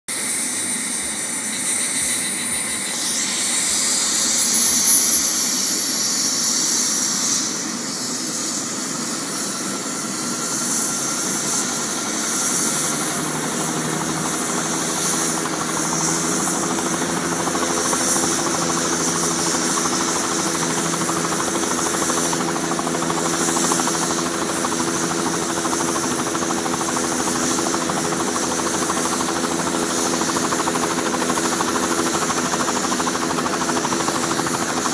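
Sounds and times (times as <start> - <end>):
helicopter rotor hum: 0.1 - 34.9
helicopter turbine whine: 0.1 - 34.9.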